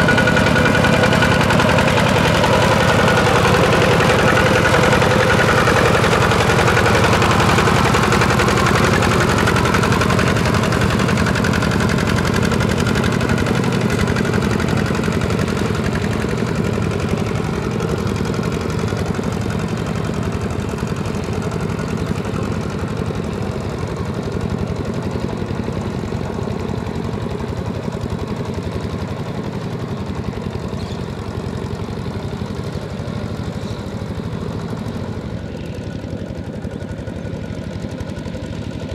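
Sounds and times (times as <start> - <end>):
walking tractor diesel engine running: 0.0 - 38.9.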